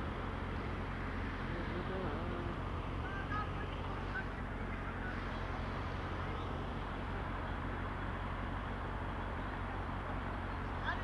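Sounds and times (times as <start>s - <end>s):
traffic moving: 0.0s - 11.0s.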